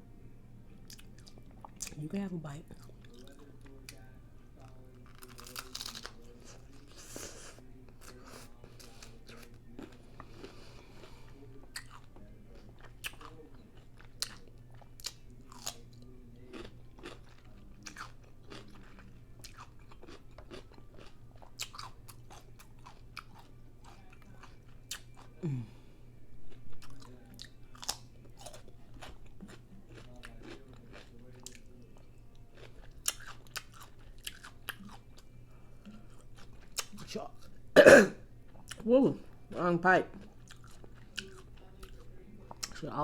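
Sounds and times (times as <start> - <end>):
crunchy chewing: 2.8 - 25.7, 26.8 - 37.6, 40.1 - 42.8.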